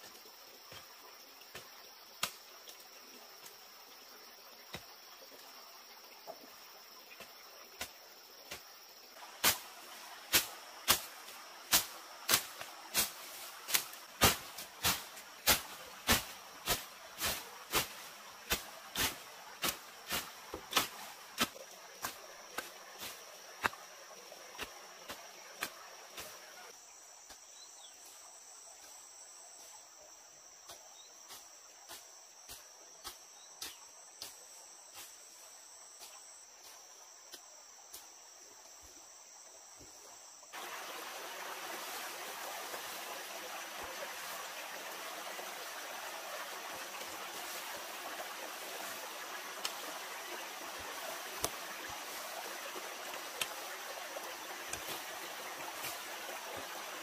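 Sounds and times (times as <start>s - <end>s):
flowing stream: 0.0s - 27.3s, 35.0s - 57.0s
insects trilling: 0.0s - 57.0s.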